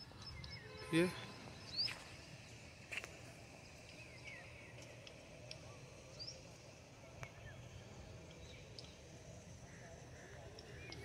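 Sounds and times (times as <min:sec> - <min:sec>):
bird chirps: 0:00.0 - 0:09.1, 0:09.8 - 0:11.0
low steady background noise: 0:00.0 - 0:11.0.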